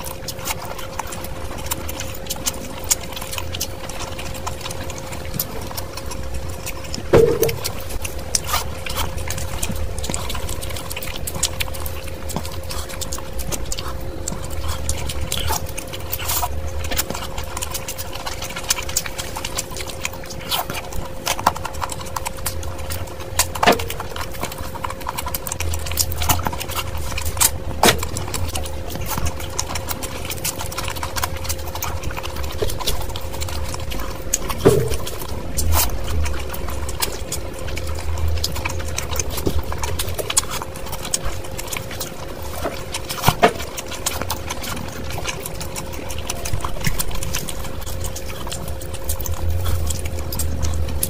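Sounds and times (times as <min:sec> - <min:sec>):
faint steady hum: 0:00.0 - 0:51.0
wet chewing and mouth smacking: 0:00.0 - 0:51.0.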